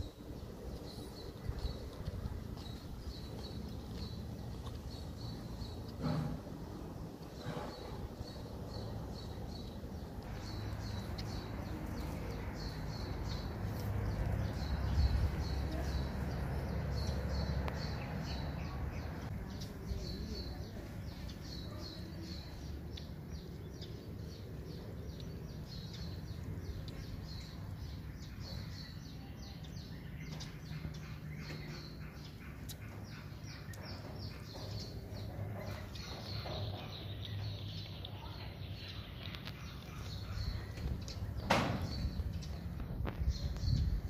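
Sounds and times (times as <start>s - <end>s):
small bird chirping: 7.2s - 44.0s.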